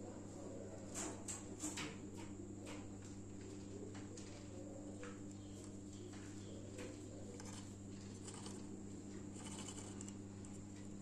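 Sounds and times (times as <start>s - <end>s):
steady low hum: 0.0s - 11.0s
birds clicking and scratching: 0.9s - 10.9s.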